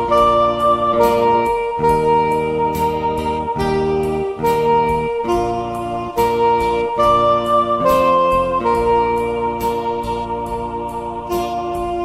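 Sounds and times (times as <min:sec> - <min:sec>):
electronic organ playing a hymn: 0:00.0 - 0:12.0.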